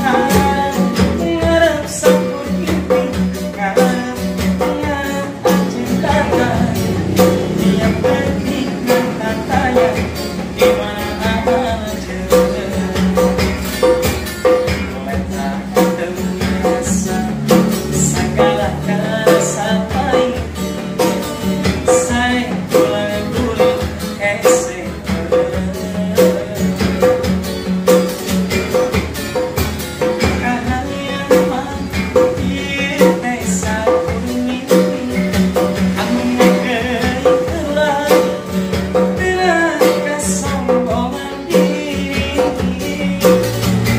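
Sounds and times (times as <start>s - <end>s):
man singing: 0.0s - 27.4s, 30.0s - 43.9s
acoustic guitar strumming: 0.0s - 43.9s
hand drum beat: 0.0s - 43.9s.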